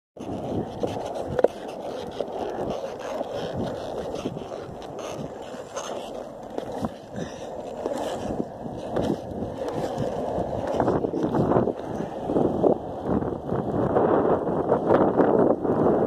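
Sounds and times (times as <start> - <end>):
skateboard wheels rolling: 0.2 - 16.0.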